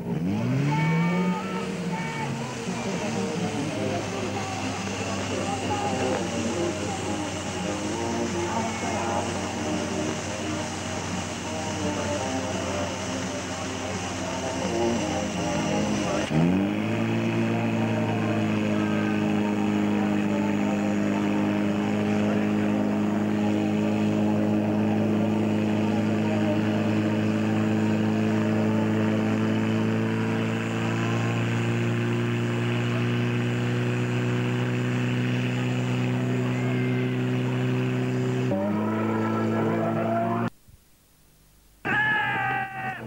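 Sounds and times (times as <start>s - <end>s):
pump engine revving: 0.0s - 40.6s.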